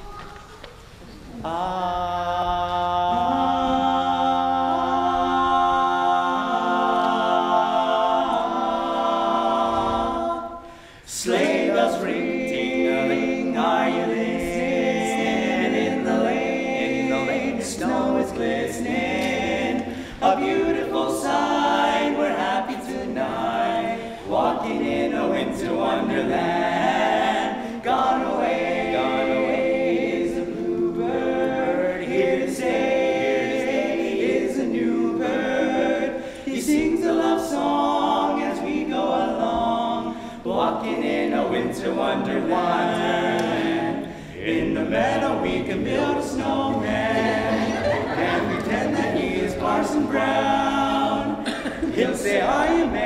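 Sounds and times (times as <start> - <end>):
male vocal quartet singing: 1.4 - 53.0.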